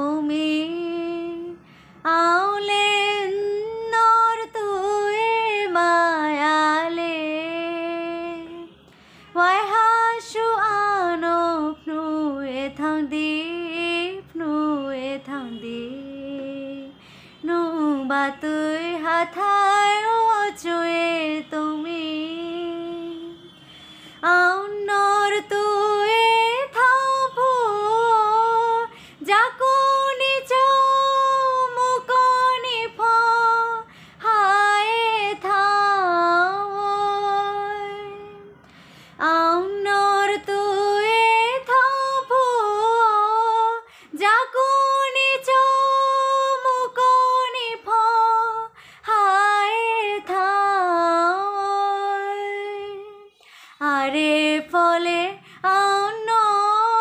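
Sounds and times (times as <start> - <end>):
woman singing unaccompanied: 0.0 - 23.4, 24.2 - 38.6, 39.2 - 57.0.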